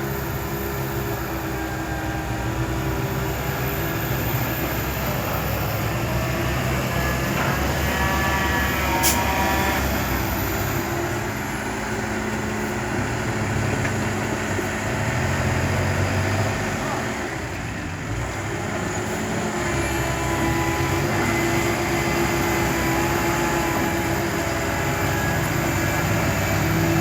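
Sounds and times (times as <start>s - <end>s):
diesel earthmoving machinery: 0.0s - 27.0s.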